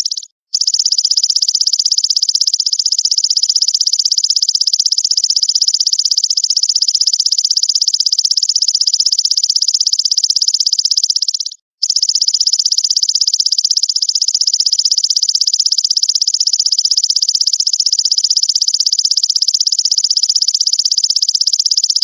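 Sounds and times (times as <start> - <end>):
insect trilling: 0.0 - 22.0.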